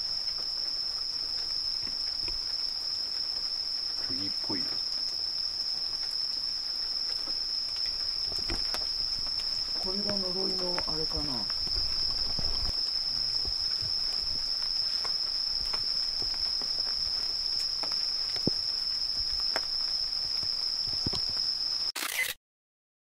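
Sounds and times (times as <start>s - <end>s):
crickets singing: 0.0s - 21.9s.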